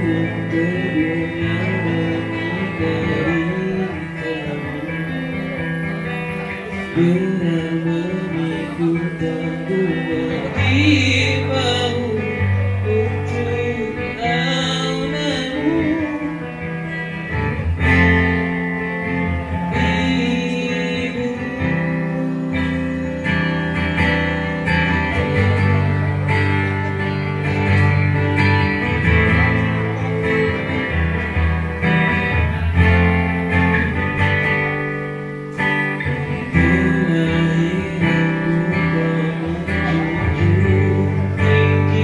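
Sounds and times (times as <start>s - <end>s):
person singing: 0.0s - 32.7s, 33.5s - 42.0s
acoustic guitar: 0.0s - 42.0s
bass line: 0.0s - 42.0s.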